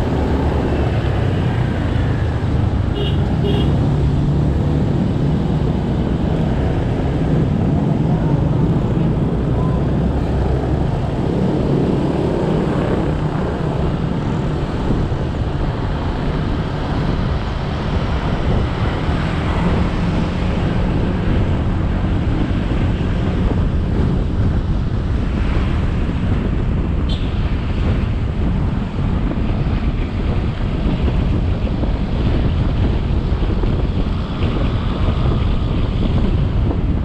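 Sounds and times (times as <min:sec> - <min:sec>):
road noise: 0:00.0 - 0:37.0
wind on microphone: 0:00.0 - 0:37.0.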